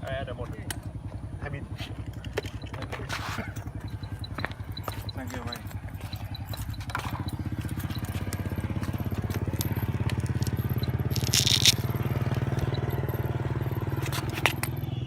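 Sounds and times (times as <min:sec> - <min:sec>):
rc helicopter rotor hum: 0:00.0 - 0:15.0.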